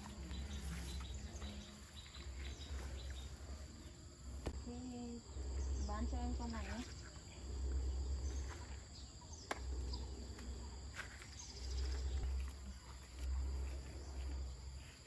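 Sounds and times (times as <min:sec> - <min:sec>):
insects trilling: 0:00.0 - 0:15.0
low rumble: 0:00.0 - 0:15.0.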